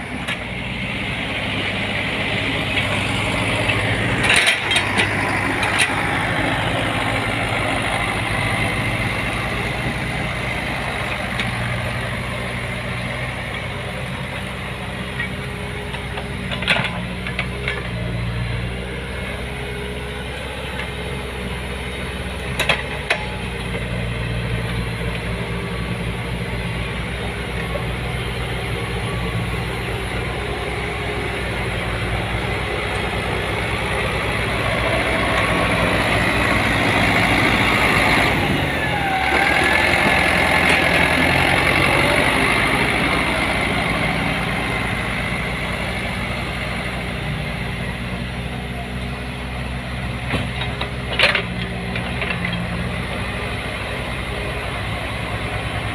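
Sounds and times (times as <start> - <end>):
heavy machinery diesel engine: 0.0 - 55.9.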